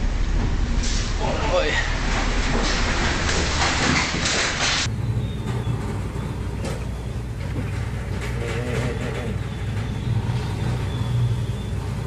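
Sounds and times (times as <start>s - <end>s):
ship engine hum: 0.0s - 12.0s
wind: 0.0s - 12.0s.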